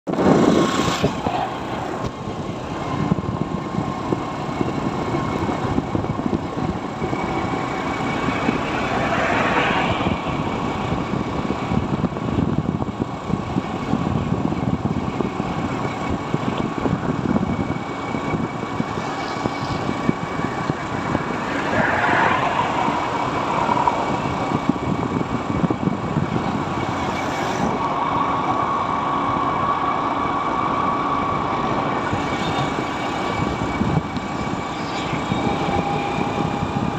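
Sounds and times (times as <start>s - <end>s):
road and wind noise: 0.0s - 36.9s.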